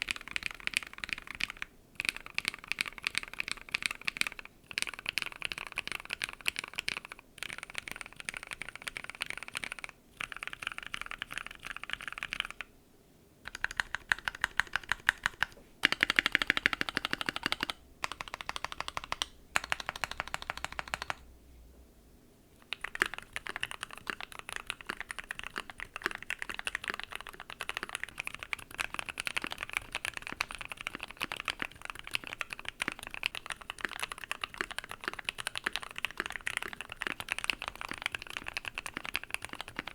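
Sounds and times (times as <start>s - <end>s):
mechanical keyboard typing clacks: 0.0s - 12.7s, 13.5s - 21.2s, 22.6s - 39.9s.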